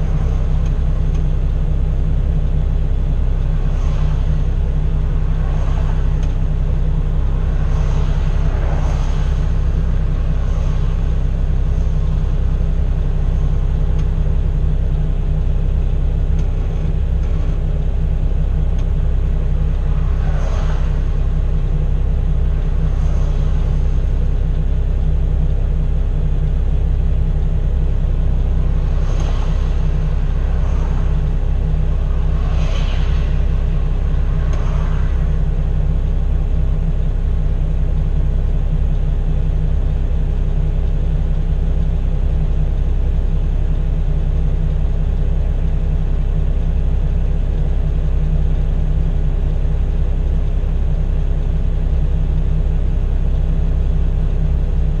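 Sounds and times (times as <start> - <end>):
diesel engine low drone: 0.0 - 55.0
road rumble: 0.0 - 55.0.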